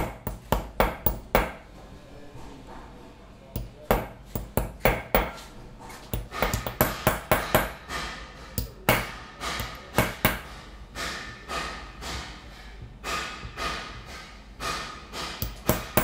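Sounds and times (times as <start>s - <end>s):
hammer tapping metal punch: 0.0s - 1.7s, 3.5s - 16.0s.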